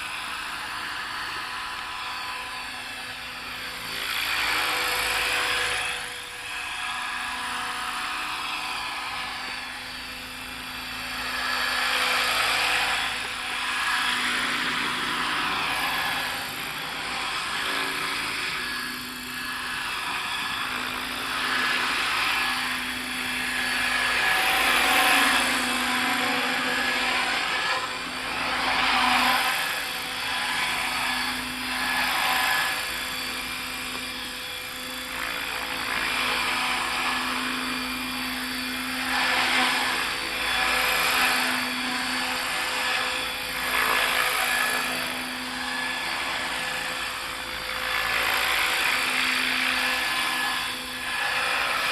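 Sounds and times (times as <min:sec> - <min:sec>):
rc helicopter rotor and motor: 0:00.0 - 0:51.9.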